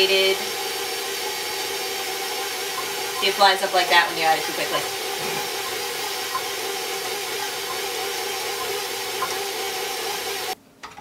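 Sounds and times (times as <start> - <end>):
stand mixer running: 0.0 - 10.6.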